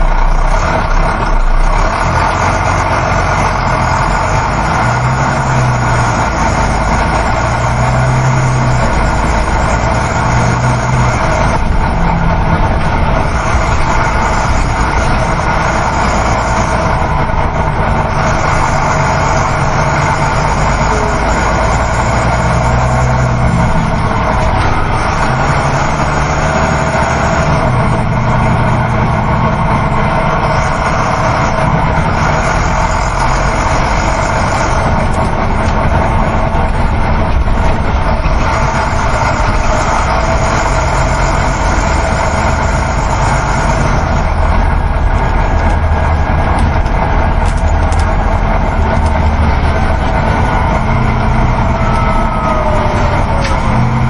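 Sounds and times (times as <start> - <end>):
bus engine humming: 0.0 - 54.0
road noise: 0.0 - 54.0.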